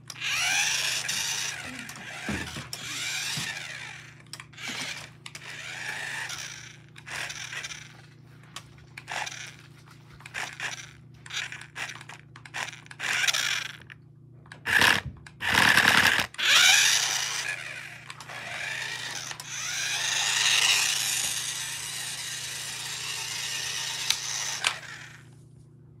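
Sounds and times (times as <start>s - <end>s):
toy car electric motor whirring: 0.0s - 25.4s.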